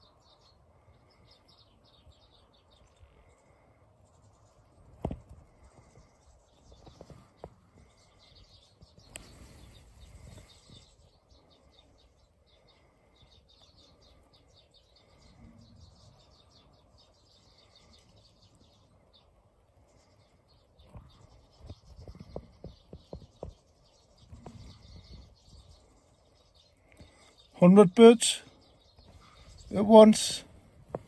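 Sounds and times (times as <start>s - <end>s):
small birds twittering: 0.0s - 31.0s.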